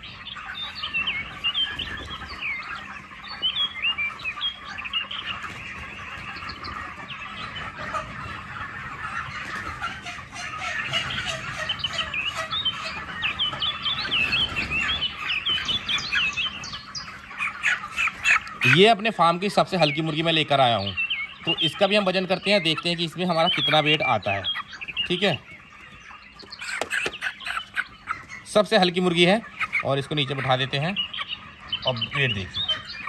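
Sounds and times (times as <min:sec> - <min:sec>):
chicks cheeping: 0:00.0 - 0:33.0
murmur of chicken flock: 0:00.0 - 0:33.0.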